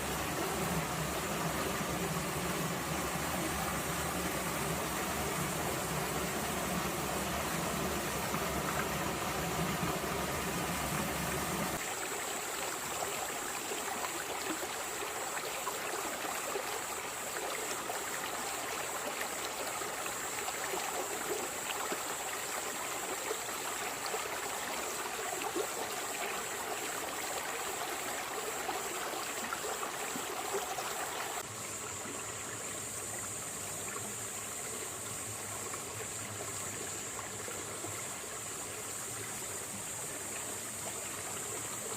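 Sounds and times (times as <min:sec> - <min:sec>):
stream flowing over rocks: 0:00.0 - 0:41.9.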